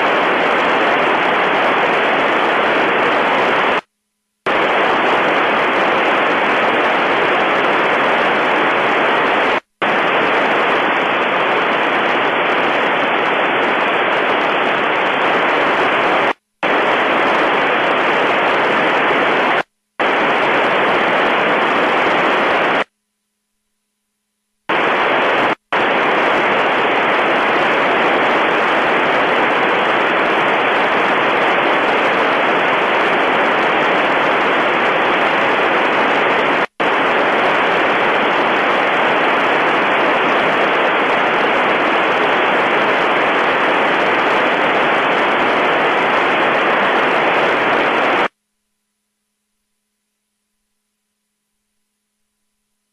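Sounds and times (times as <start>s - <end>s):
radio static hiss: 0.0s - 52.9s.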